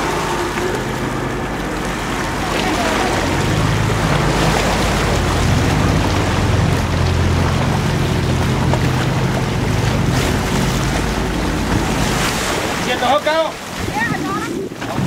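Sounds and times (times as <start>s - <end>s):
boat motor idling: 0.0s - 15.0s
wind and water rushing: 0.0s - 15.0s.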